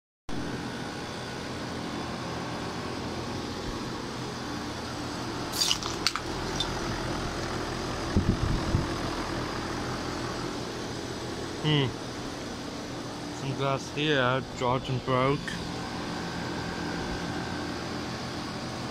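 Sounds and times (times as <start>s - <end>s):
air conditioner hum: 0.3s - 18.9s.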